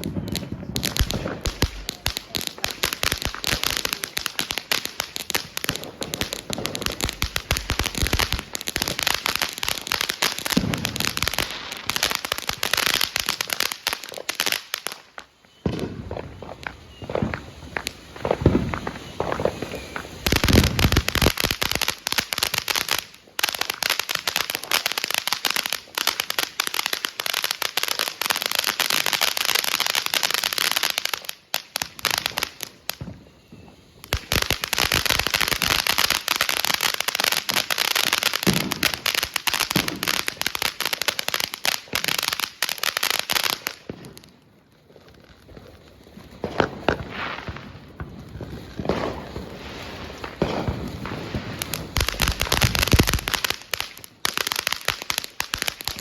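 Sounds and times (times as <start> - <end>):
firework fountain crackling: 0.0 - 56.0.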